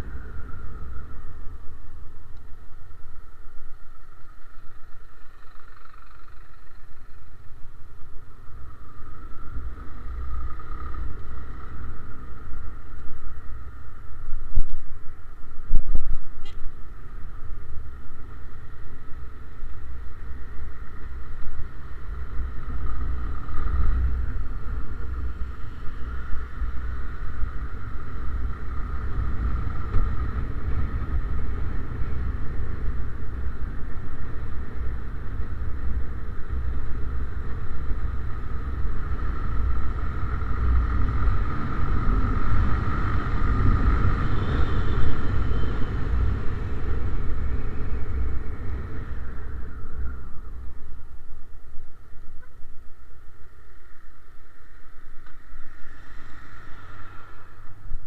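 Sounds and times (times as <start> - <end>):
muffled motorcycle engine rumble: 0.0 - 58.0.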